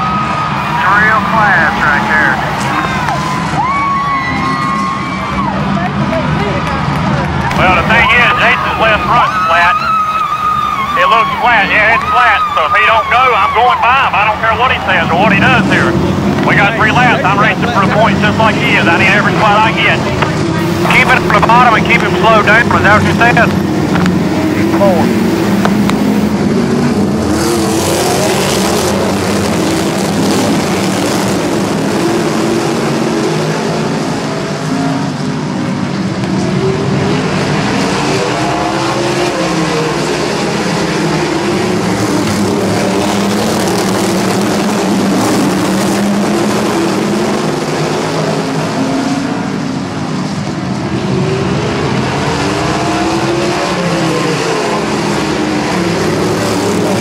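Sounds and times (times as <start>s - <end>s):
race car engines passing by: 0.0s - 57.0s.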